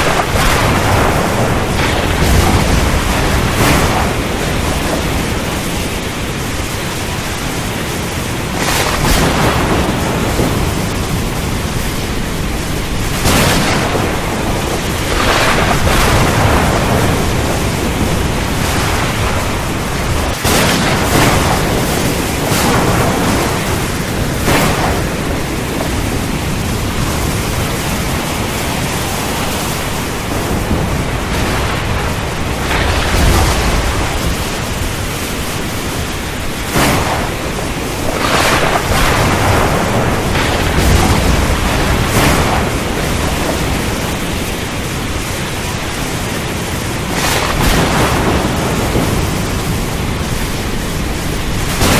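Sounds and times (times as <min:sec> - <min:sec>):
rain: 0:00.0 - 0:51.9
thunder claps and rumbles: 0:00.0 - 0:51.9
wind: 0:00.0 - 0:51.9.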